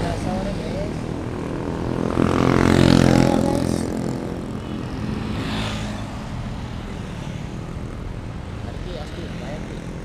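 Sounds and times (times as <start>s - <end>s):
motorcycles passing by: 0.0s - 10.0s.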